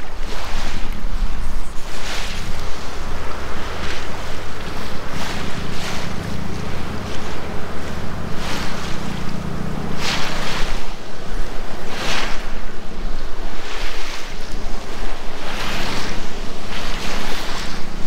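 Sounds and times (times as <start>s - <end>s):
small waves lapping: 0.0s - 18.0s
wind rumbling on microphone: 0.0s - 18.0s
hissing swell of water: 1.4s - 18.0s.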